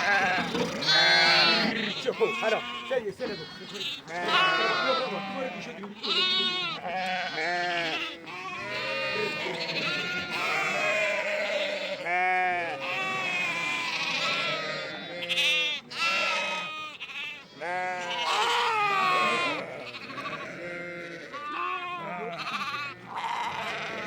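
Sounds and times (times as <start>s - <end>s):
sheep bleating: 0.0s - 24.0s.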